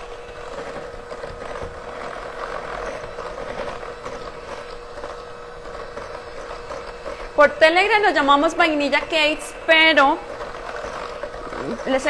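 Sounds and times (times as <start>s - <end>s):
electric hand mixer whining: 0.0s - 12.0s.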